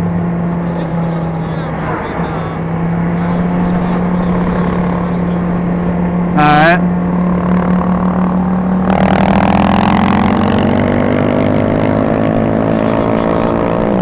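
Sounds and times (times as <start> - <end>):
motorcycle engine running: 0.0 - 14.0
rush of noise: 0.0 - 14.0.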